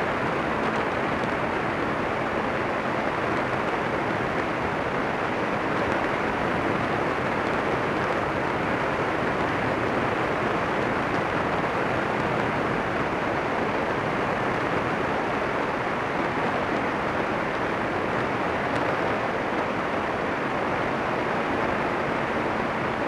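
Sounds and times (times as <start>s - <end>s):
aircraft engine noise: 0.0s - 23.0s.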